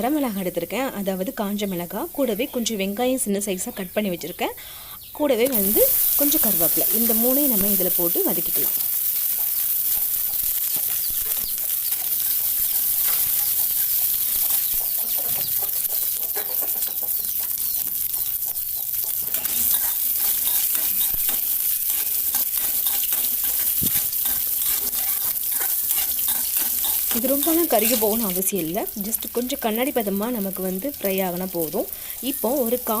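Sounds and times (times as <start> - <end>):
spices sizzling in hot oil: 0.0 - 33.0
stirring in a pan: 5.5 - 33.0.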